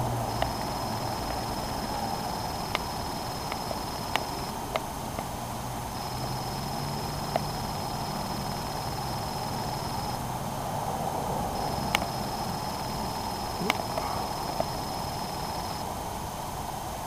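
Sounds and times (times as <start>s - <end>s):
low hum: 0.0s - 16.5s
faint high whine: 0.0s - 17.0s
outdoor background hiss: 0.0s - 17.0s.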